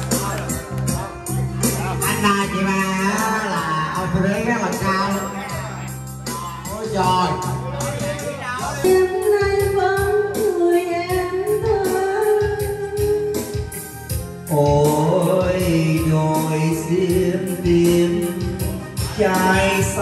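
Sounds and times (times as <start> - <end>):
karaoke pop ballad backing track: 0.0 - 20.0.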